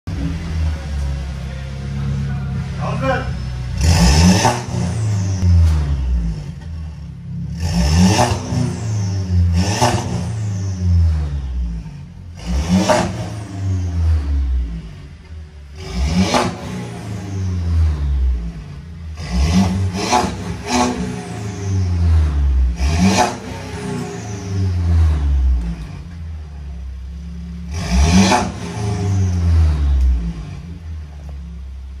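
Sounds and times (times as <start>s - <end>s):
car engine idling: 0.1s - 32.0s
car engine revving: 0.1s - 32.0s.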